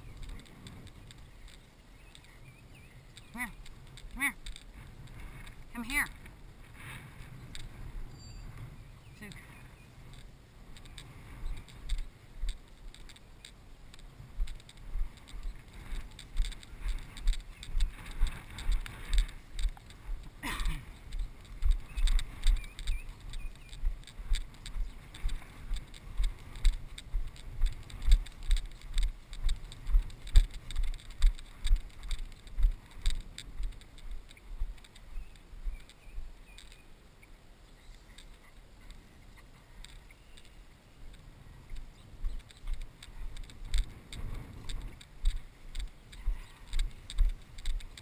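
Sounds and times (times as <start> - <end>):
footsteps through grass: 0.0 - 36.9, 37.8 - 48.0.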